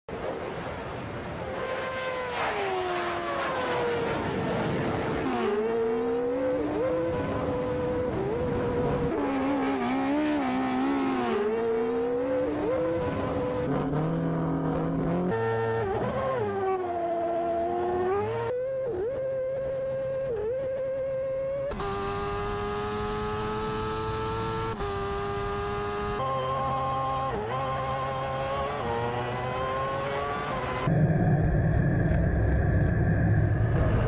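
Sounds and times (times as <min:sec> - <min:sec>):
race car engines accelerating: 0:01.6 - 0:31.1.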